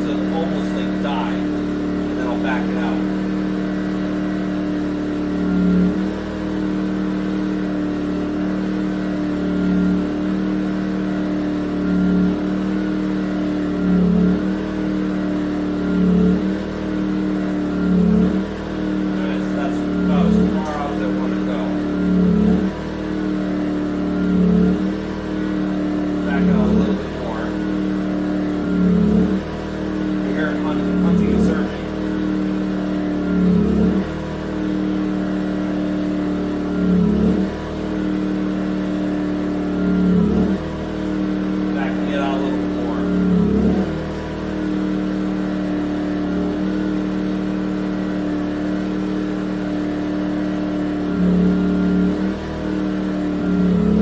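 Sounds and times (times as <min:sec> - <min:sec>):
generator engine hunting: 0:00.0 - 0:54.0.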